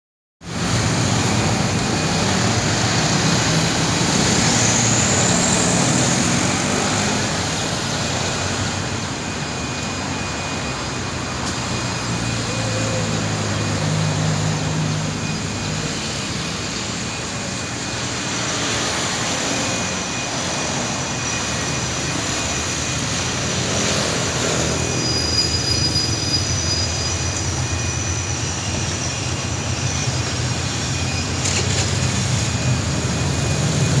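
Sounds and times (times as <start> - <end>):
cars and motorcycles passing: 0.4 - 34.0
low engine drone: 0.4 - 34.0.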